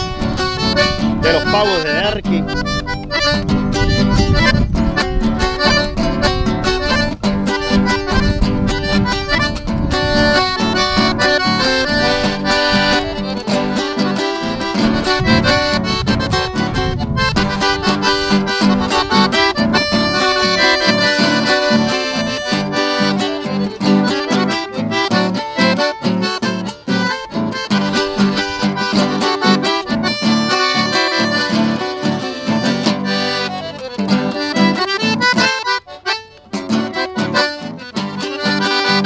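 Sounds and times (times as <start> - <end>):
accordion playing lively tune: 0.0 - 39.0.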